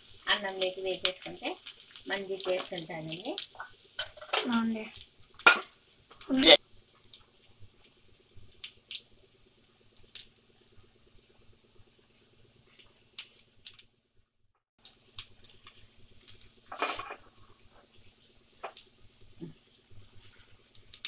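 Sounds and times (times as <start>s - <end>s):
oil sizzling: 0.0s - 13.8s, 14.8s - 21.0s
crackles and pops in pan: 0.0s - 14.0s, 14.8s - 21.0s.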